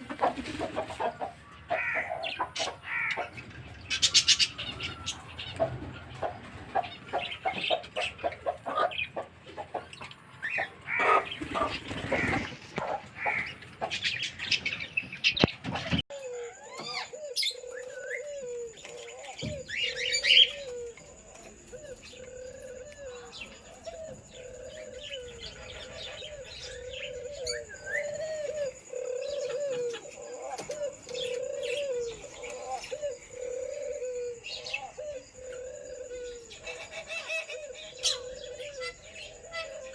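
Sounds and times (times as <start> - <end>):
birds chirping: 0.0 - 39.9
pigeons cooing: 0.0 - 39.9.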